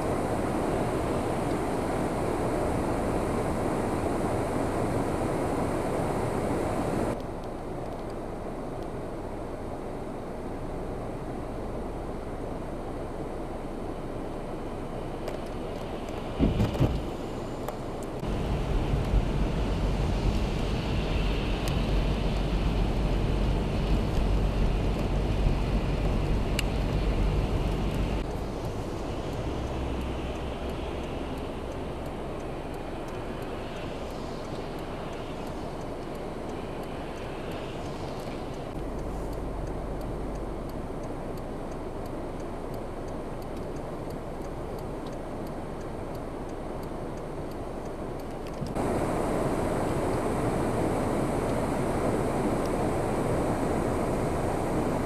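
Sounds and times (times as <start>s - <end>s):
road traffic rumble: 0.0s - 55.0s
rushing outdoor noise: 0.0s - 55.0s.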